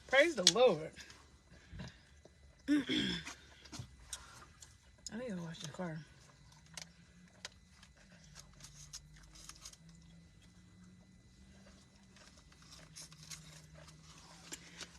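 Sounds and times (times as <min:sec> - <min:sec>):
faint low hum: 0:00.0 - 0:14.9.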